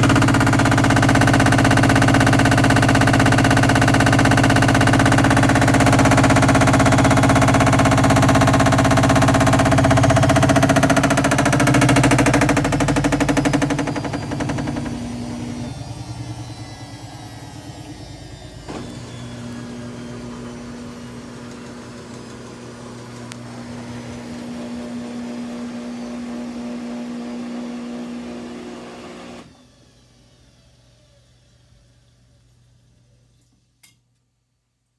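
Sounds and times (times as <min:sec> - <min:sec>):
washer-dryer spin cycle: 0:00.0 - 0:33.3.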